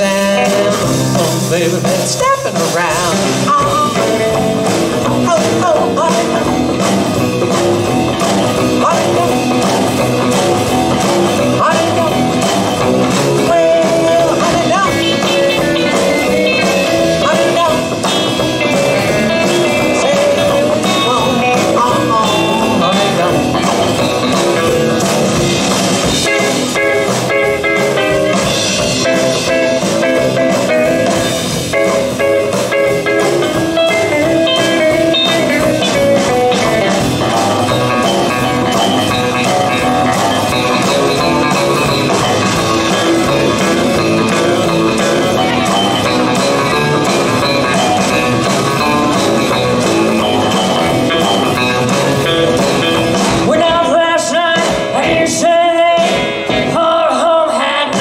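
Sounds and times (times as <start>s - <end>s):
live rock and roll band: 0.0s - 58.0s.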